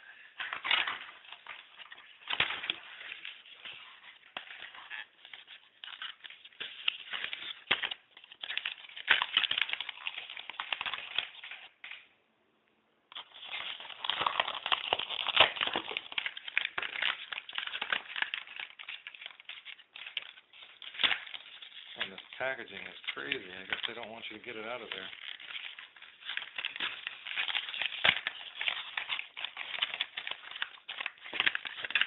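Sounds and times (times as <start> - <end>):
packaging crinkling and crackling: 0.0 - 12.0, 13.1 - 32.0.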